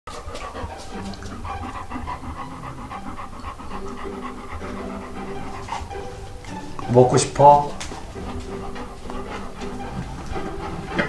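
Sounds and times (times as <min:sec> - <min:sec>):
dog panting: 0:00.1 - 0:11.0.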